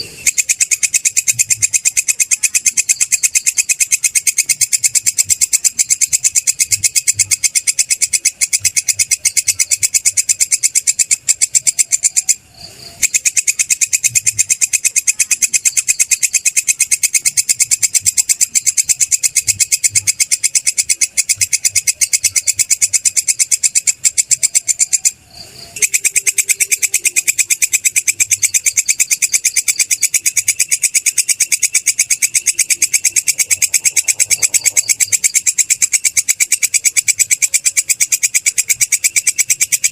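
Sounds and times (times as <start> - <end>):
katydid stridulating clicks: 0.0 - 39.9.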